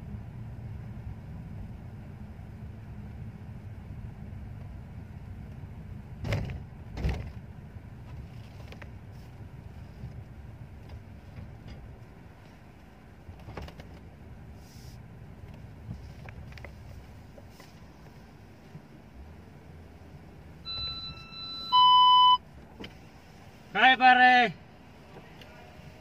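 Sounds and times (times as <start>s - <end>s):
car cabin rumble: 0.0s - 23.7s.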